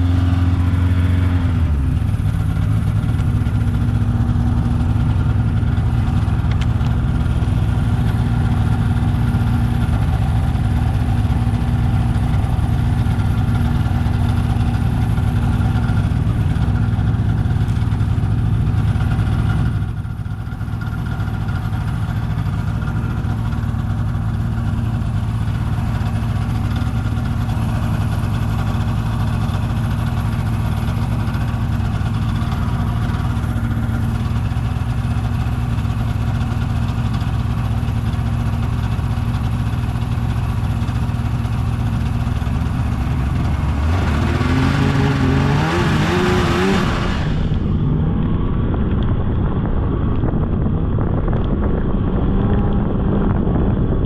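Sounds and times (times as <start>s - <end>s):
snowmobile engine revving: 0.0s - 37.0s, 38.7s - 48.2s.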